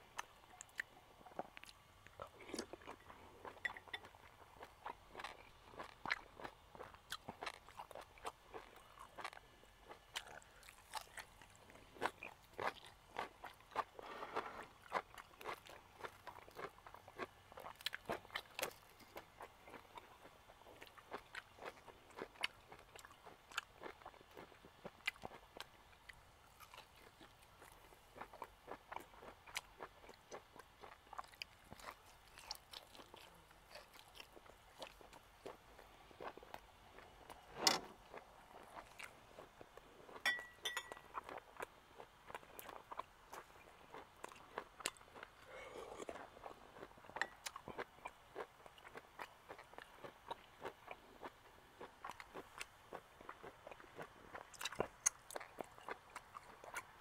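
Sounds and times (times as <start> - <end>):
person chewing meat: 0.1 - 57.0.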